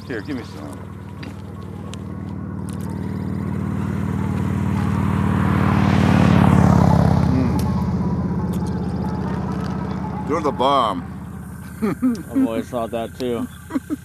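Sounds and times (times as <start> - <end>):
motorcycle passing by: 0.0 - 14.0.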